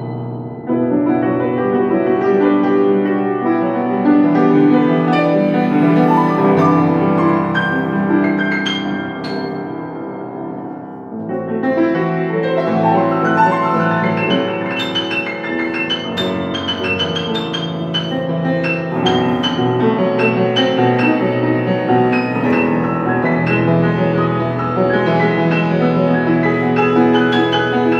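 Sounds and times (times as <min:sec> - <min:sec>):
solo piano playing: 0:00.0 - 0:27.9.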